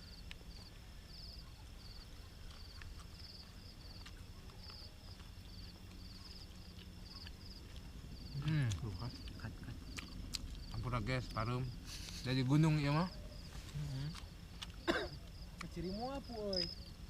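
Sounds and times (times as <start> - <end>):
insects chirping: 0.0 - 17.0
low steady rumble: 0.0 - 17.0.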